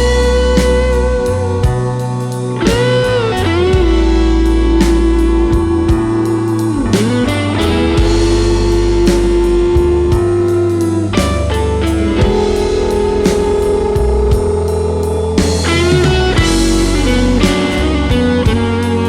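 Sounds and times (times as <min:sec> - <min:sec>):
bass guitar: 0:00.0 - 0:19.0
drum kit steady beat: 0:00.0 - 0:19.0
electric guitar sustained bending notes: 0:00.0 - 0:19.0.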